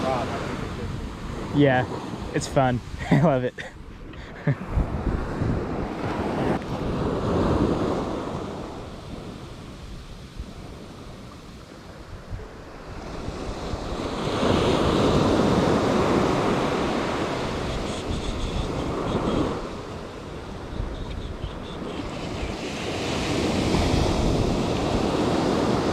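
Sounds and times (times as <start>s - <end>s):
ocean surf breaking: 0.0s - 25.9s
wind buffeting microphone: 3.8s - 25.9s.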